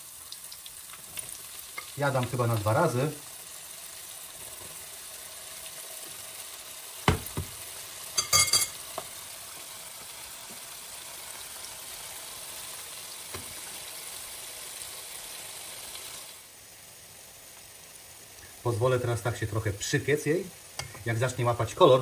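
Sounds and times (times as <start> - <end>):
onion sizzling in deep oil: 0.0 - 22.0.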